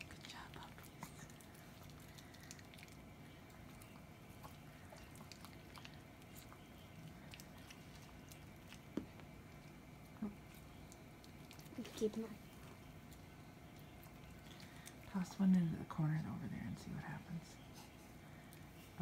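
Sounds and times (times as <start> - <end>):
dogs chewing noodles: 0.0 - 15.7.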